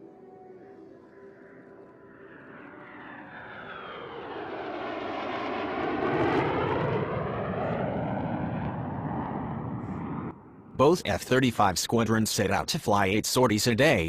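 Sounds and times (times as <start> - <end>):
jet fighter flying past: 1.5 - 14.0.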